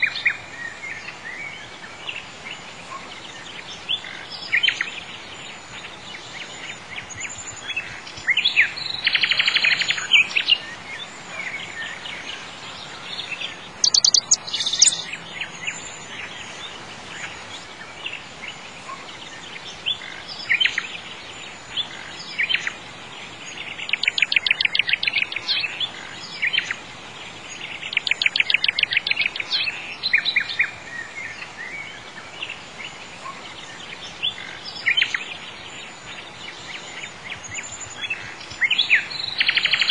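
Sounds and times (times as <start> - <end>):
birds chirping and singing: 0.0 - 39.9
faint steady hiss: 0.0 - 39.9.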